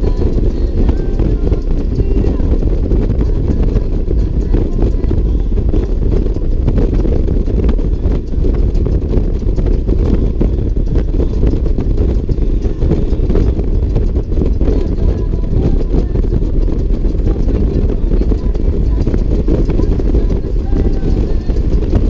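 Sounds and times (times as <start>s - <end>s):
motorcycle engine rumble: 0.0s - 22.0s
wind: 0.0s - 22.0s.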